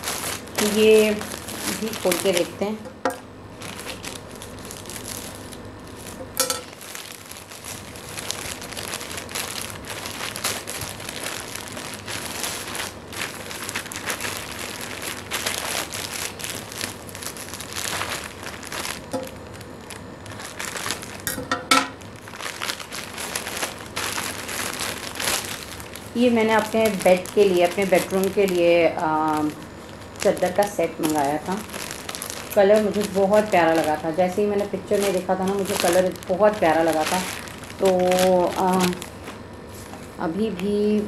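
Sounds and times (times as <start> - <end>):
plastic bag crinkling: 0.0 - 2.8, 3.5 - 41.0.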